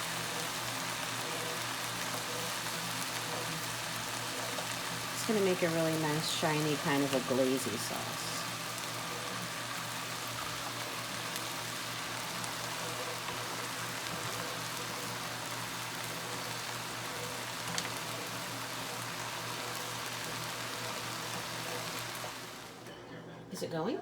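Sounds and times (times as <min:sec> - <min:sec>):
food sizzling in a pan: 0:00.0 - 0:22.9.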